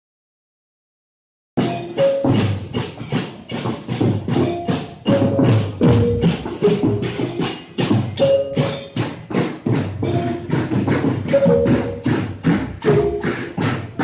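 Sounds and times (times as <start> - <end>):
marching band drums and cymbals: 1.6 - 14.0.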